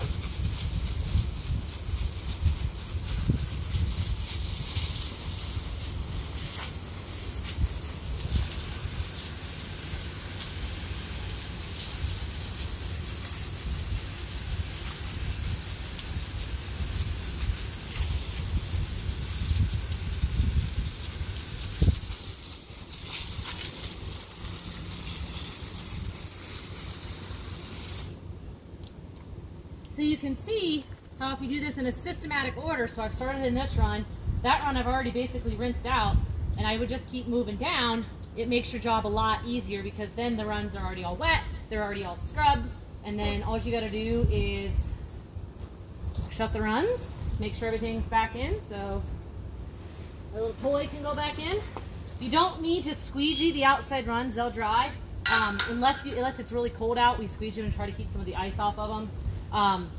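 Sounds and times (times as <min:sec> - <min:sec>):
hose water spraying on concrete: 0:00.0 - 0:28.3, 0:29.9 - 0:59.9.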